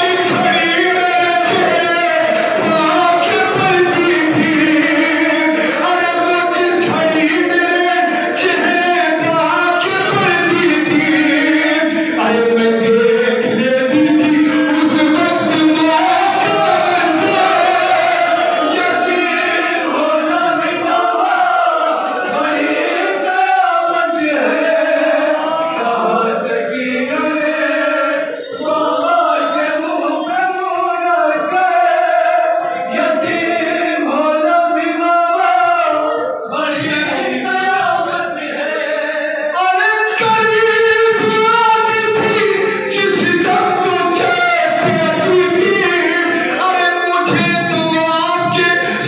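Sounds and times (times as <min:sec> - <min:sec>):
amplified lead voice: 0:00.0 - 0:49.0
men singing a lament in unison: 0:00.0 - 0:49.0.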